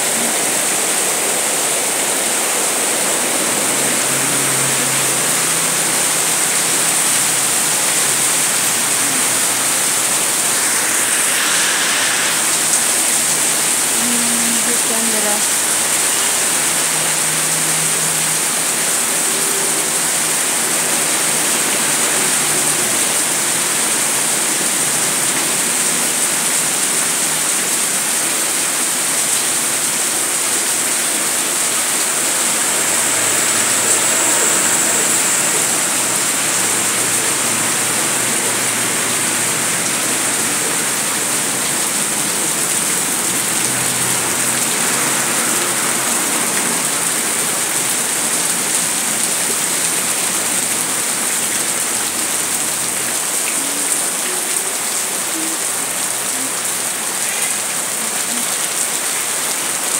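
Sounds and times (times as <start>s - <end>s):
heavy rain on pavement: 0.0s - 59.9s
water streaming off roof: 0.0s - 59.9s.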